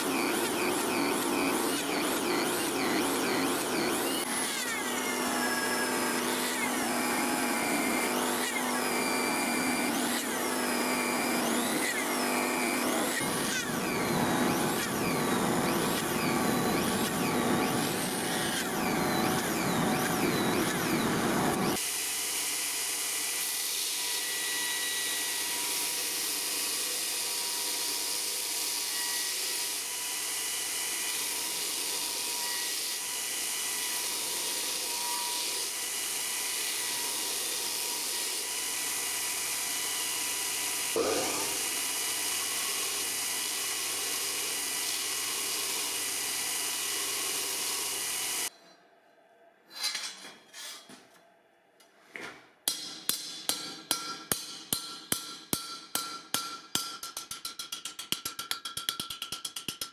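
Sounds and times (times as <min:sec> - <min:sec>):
power tool working steel: 0:00.0 - 0:48.5.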